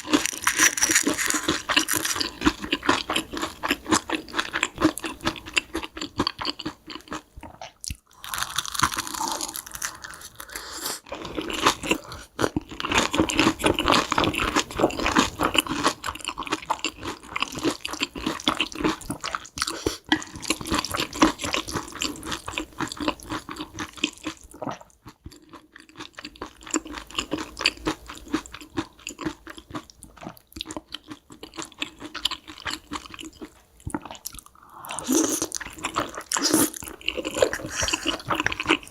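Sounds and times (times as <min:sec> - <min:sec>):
person chewing and crunching food: 0:00.0 - 0:38.9.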